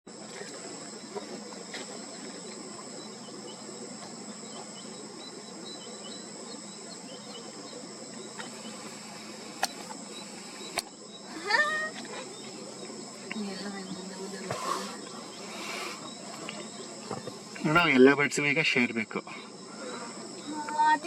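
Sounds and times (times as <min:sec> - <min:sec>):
faint chirps: 0:00.1 - 0:21.0
insects chorus: 0:00.1 - 0:21.0.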